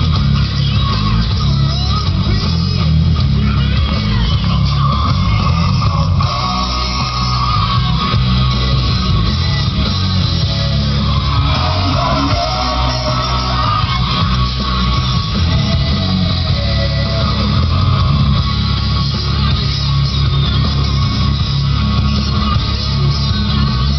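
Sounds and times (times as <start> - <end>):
bass line: 0.0 - 23.9
guitar music: 0.0 - 23.9.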